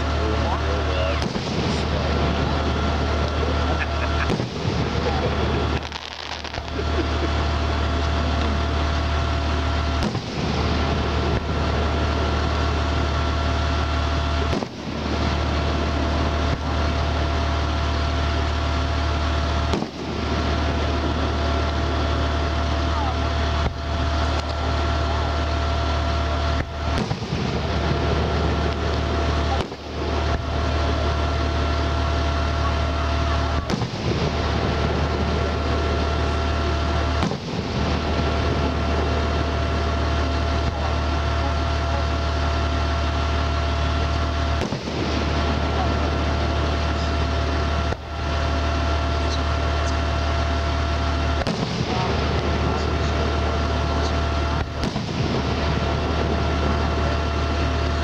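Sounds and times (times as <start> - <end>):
fireworks bursting with bangs: 0.0 - 58.0
low mechanical hum: 0.0 - 58.0.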